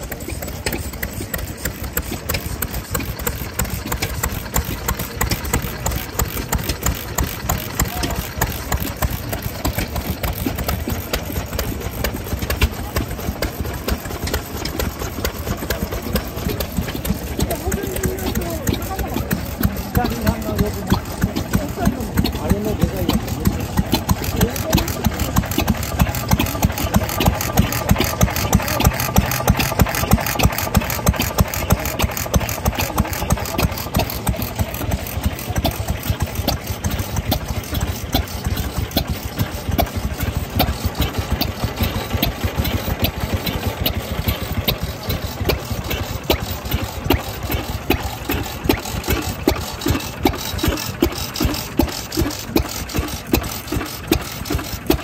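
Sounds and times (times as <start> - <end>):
stationary engine idling: 0.0 - 55.0.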